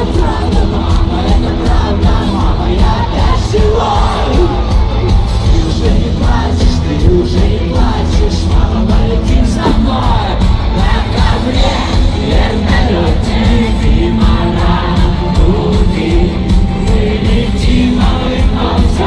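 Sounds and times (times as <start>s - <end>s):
drums: 0.0s - 19.0s
live rock band playing: 0.0s - 19.0s
singing and yelling voices: 0.0s - 19.0s.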